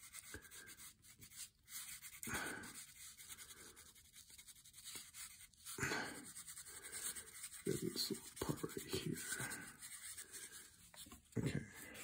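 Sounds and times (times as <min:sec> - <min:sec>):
brush swishing on paper: 0:00.0 - 0:12.0.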